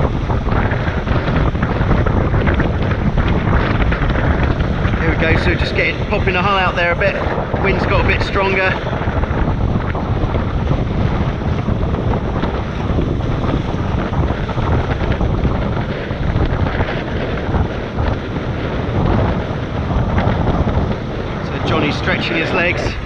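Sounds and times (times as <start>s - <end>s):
water rushing past hulls: 0.0s - 23.0s
wind buffeting microphone: 0.0s - 23.0s.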